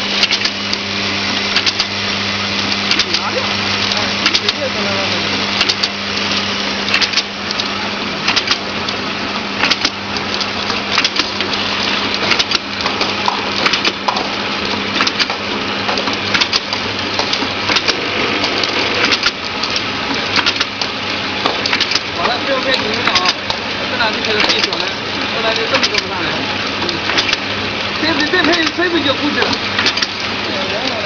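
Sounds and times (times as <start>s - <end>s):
low machine hum: 0.0s - 31.0s
machine clattering and clicking: 0.1s - 2.0s, 2.6s - 9.0s, 9.6s - 31.0s.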